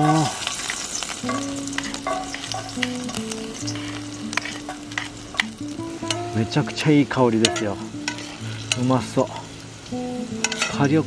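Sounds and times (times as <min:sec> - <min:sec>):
oil popping: 0:00.0 - 0:10.8
garlic sizzling in oil: 0:00.0 - 0:11.0.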